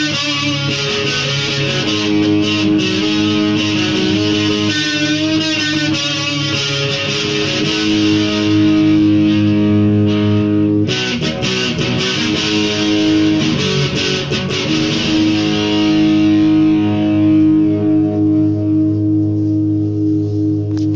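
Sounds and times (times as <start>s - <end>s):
electric guitar chords ringing: 0.0s - 20.9s.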